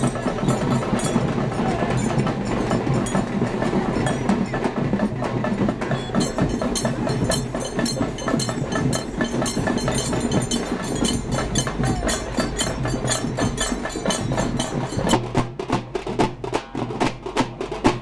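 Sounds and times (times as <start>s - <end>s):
crowd noise: 0.0s - 15.4s
hand percussion clattering: 0.0s - 16.9s.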